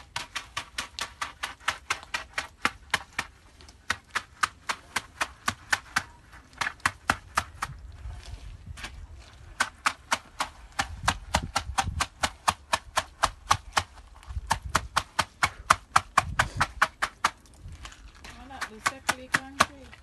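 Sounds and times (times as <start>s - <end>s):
screed scraping wet concrete: 0.0s - 20.0s.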